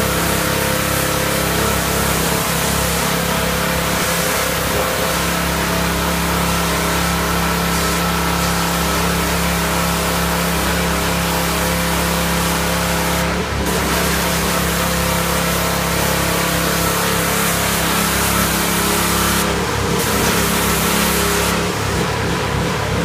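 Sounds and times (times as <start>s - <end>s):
pressure washer motor hum: 0.0s - 23.0s
water jet hissing on car: 0.0s - 23.0s.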